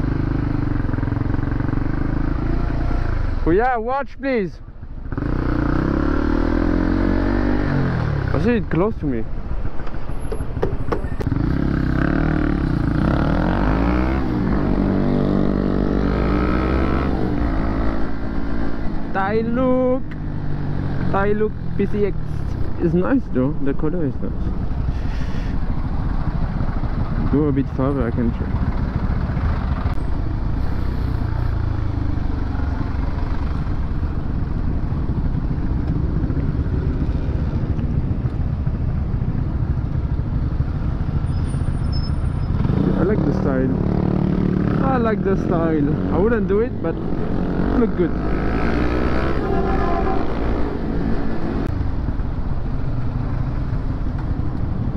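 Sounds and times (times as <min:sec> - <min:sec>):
road noise rumble: 0:00.0 - 0:54.9
motorcycle engine accelerating: 0:05.0 - 0:08.6, 0:10.2 - 0:21.9, 0:24.5 - 0:54.9.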